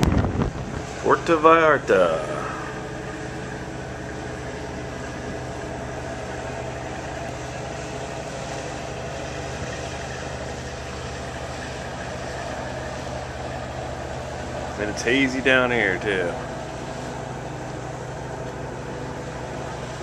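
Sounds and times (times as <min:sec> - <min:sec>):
ship machinery hum: 0:00.0 - 0:20.0
wind and water rushing: 0:00.0 - 0:20.0.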